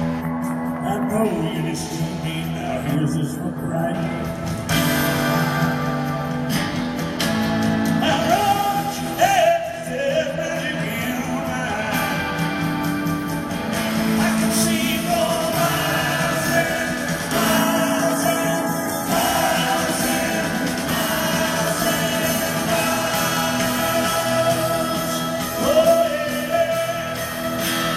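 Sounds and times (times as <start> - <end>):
live rock band playing: 0.0 - 27.9
pitch-bending guitar line: 0.0 - 27.9.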